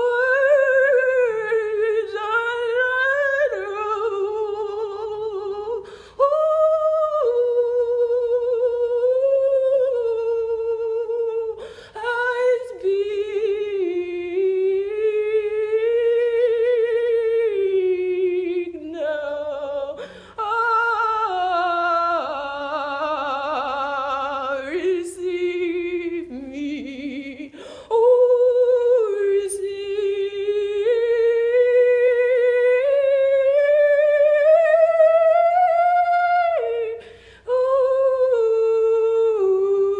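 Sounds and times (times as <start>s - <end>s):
woman singing wordlessly: 0.0s - 39.9s.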